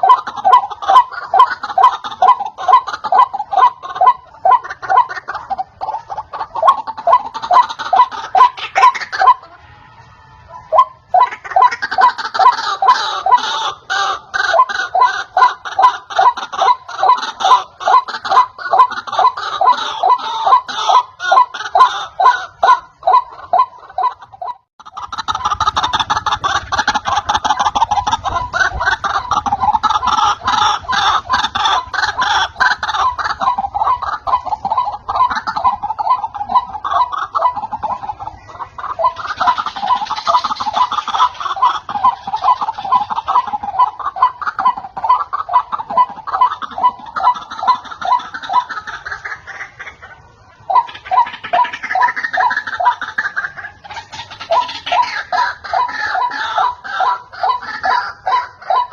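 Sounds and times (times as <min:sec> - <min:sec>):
waterhen croaking calls: 0:00.0 - 0:58.9.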